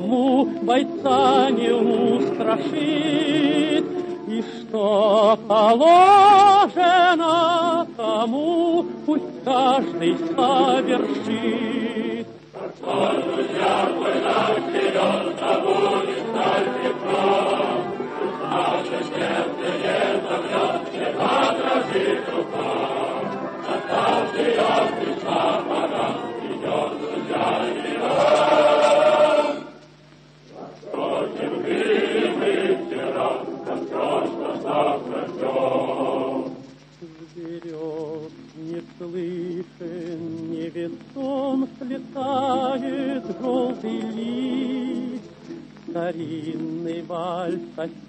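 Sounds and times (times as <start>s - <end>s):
choir singing: 0.0s - 29.9s, 30.5s - 36.6s, 41.9s - 45.2s
person singing with vibrato: 0.0s - 30.0s, 30.6s - 48.0s.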